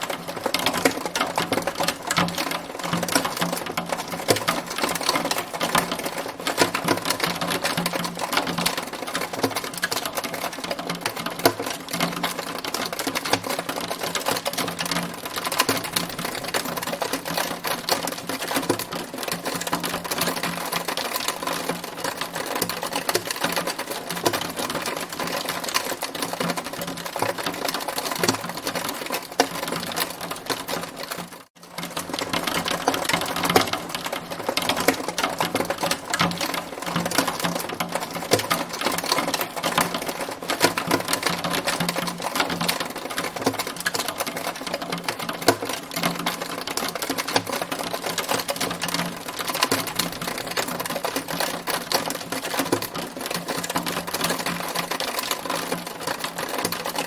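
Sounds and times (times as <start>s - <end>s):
hailstones clattering: 0.0s - 57.0s.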